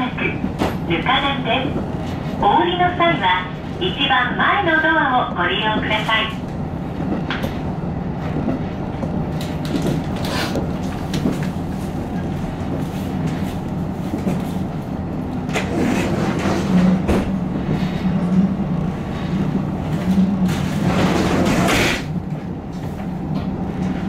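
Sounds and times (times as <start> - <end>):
railcar engine hum: 0.0 - 24.0.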